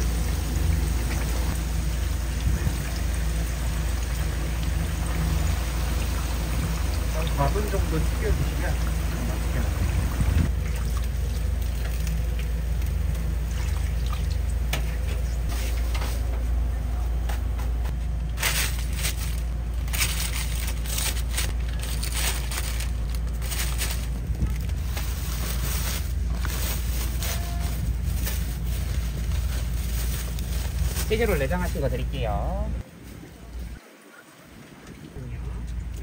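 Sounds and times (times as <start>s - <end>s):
oil sizzling and crackling: 0.0s - 16.0s, 17.8s - 32.0s
steady low hum: 0.0s - 33.8s, 34.5s - 36.0s.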